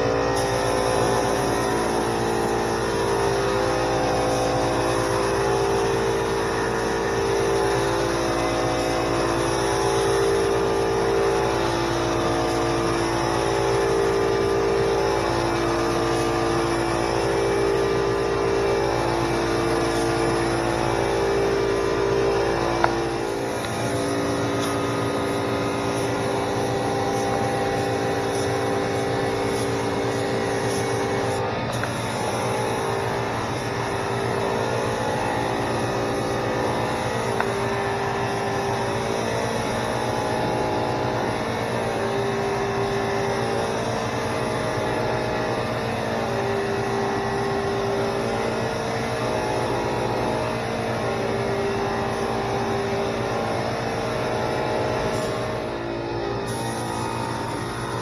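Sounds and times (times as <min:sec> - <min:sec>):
air compressor humming: 0:00.0 - 0:58.0
spray gun hissing: 0:00.0 - 0:58.0.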